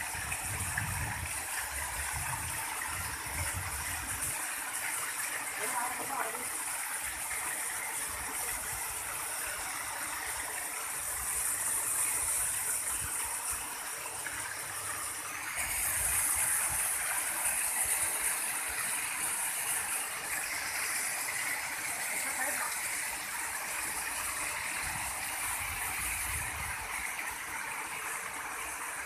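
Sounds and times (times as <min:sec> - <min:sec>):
stream and waterfall splashing: 0:00.0 - 0:29.0.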